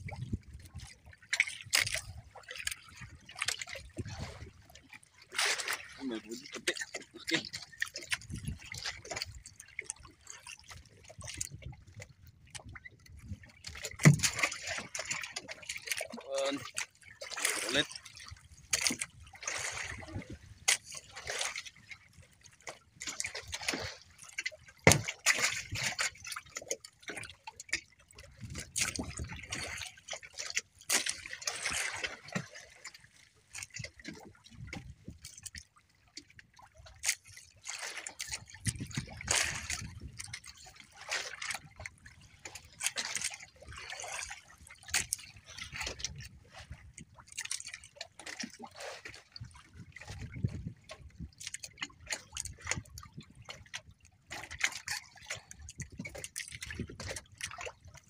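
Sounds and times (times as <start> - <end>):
water sloshing against boat: 0.0 - 58.0.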